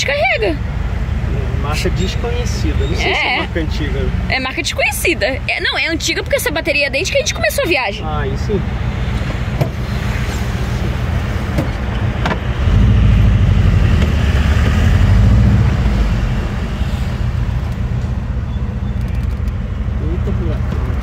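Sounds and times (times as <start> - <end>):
road noise: 0.0 - 21.0
van engine running: 0.0 - 21.0.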